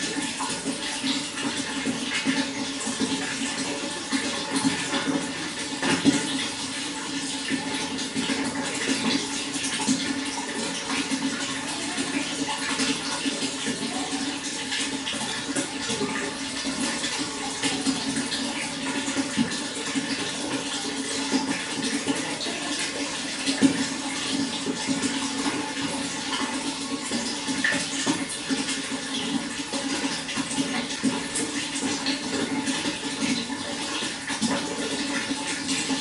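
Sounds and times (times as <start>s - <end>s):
running water splashing: 0.0s - 36.0s.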